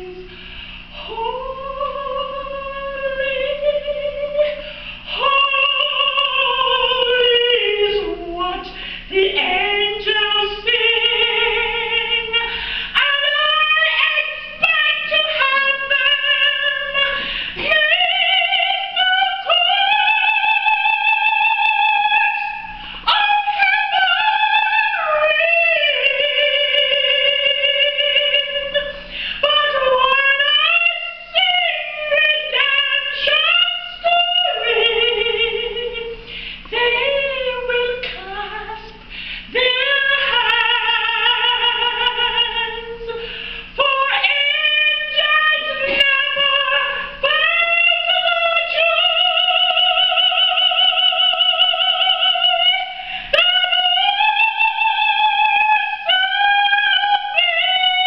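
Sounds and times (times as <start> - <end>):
woman singing a hymn: 0.0 - 58.0.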